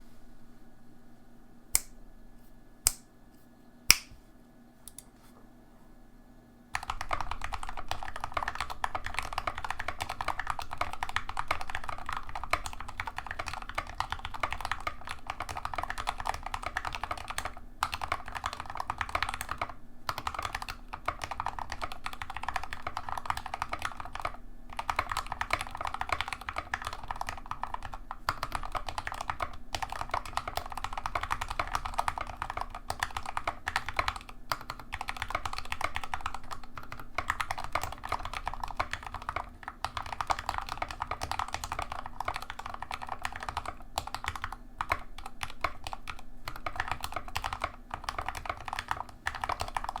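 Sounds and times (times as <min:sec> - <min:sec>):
mechanical keyboard typing: 0:06.8 - 0:50.0.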